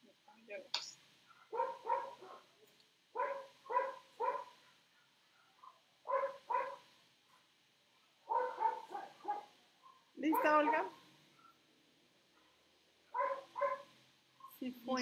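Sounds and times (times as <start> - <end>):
dog barking: 1.2 - 2.6, 3.2 - 11.7, 12.3 - 14.6.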